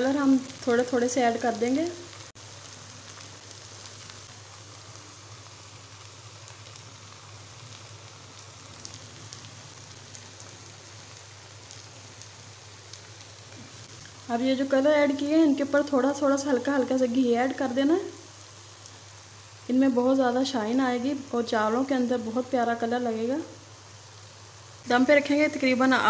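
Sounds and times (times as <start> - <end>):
rice sizzling in a pan: 0.0 - 26.0.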